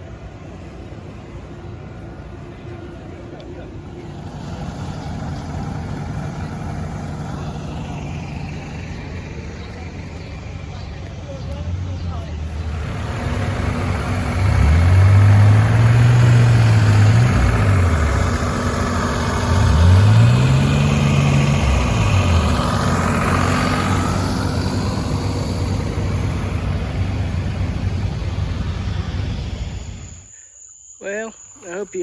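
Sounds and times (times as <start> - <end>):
tractor engine revving: 1.7 - 30.3.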